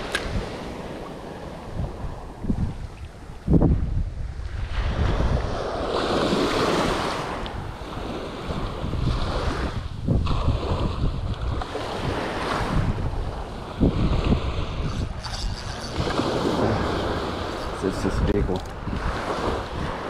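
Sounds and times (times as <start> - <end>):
surf washing up a beach: 0.0 - 3.6, 4.3 - 20.0
wind buffeting microphone: 0.0 - 20.0.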